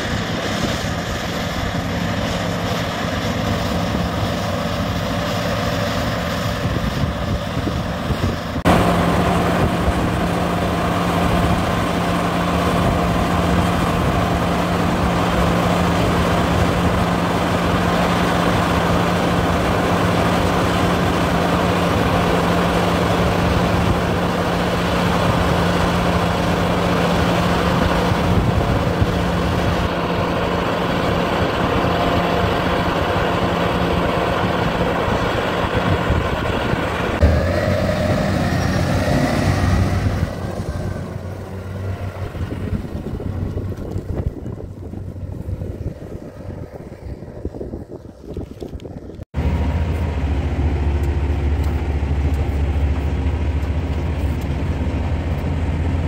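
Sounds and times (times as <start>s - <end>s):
combine harvester droning: 0.0s - 56.0s
grain auger humming: 0.0s - 56.0s.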